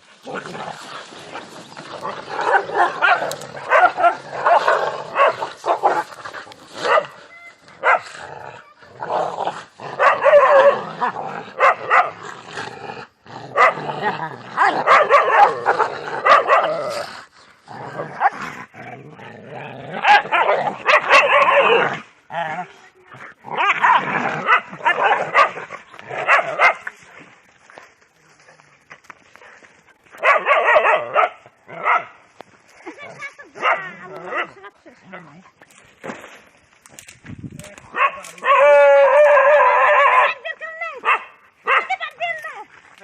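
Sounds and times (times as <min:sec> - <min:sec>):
dogs fighting growling and barking: 0:00.0 - 0:27.0, 0:29.2 - 0:35.8, 0:37.7 - 0:40.4.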